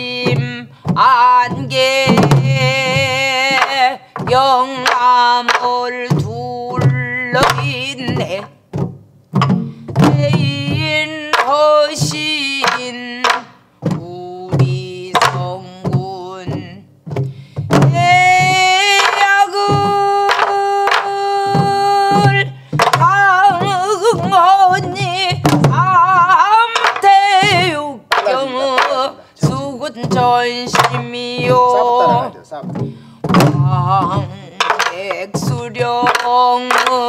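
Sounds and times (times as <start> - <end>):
woman singing: 0.0 - 8.6, 9.8 - 16.9, 17.6 - 37.0
stick knocking on drum rim: 0.0 - 14.0, 17.1 - 37.0
barrel drum beats: 0.0 - 37.0.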